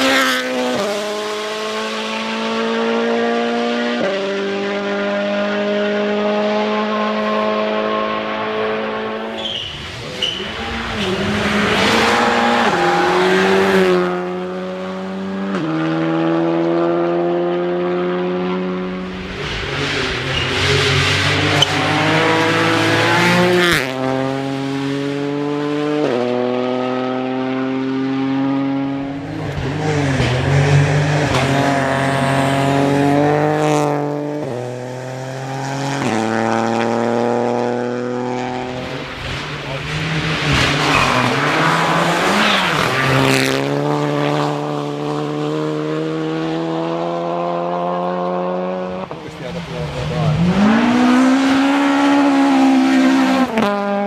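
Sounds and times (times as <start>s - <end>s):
rally car engines accelerating: 0.0s - 54.0s.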